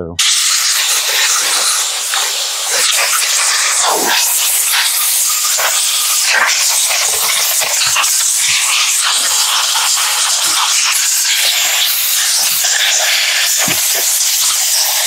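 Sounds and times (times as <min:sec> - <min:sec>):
compressed air hissing: 0:00.2 - 0:15.0.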